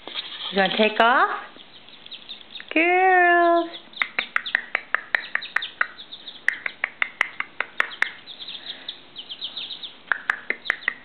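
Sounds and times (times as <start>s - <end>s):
young chickens peeping: 0.0s - 11.0s.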